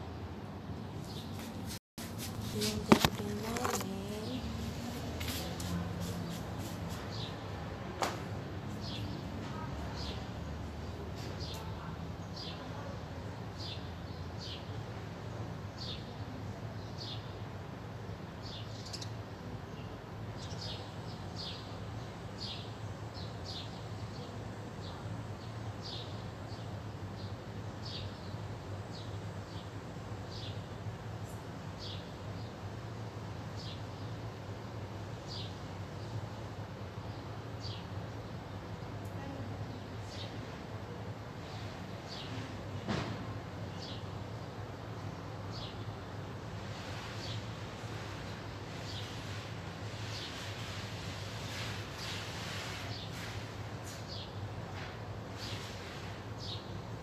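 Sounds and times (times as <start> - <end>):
small birds chirping: 1.0 - 7.6, 8.7 - 17.4, 18.0 - 42.5, 43.6 - 46.1, 46.7 - 54.4, 55.3 - 56.8.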